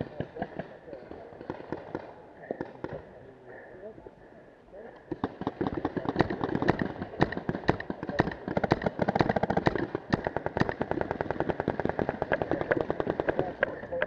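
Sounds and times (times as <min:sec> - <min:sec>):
paintball markers firing: 0:00.0 - 0:03.0, 0:05.1 - 0:14.0.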